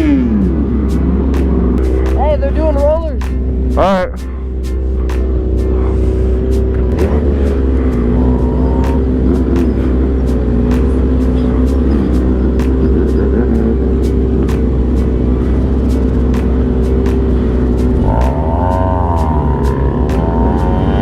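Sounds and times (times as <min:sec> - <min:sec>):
car engines idling: 0:00.0 - 0:21.0.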